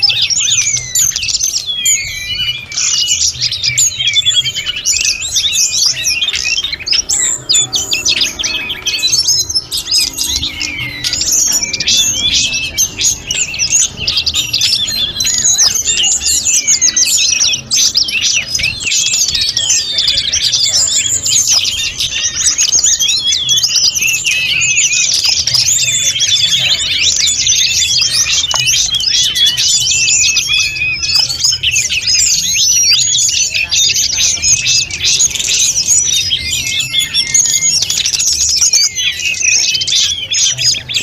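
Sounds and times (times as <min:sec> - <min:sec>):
songbird singing chirps and whistles: 0:00.0 - 0:41.0.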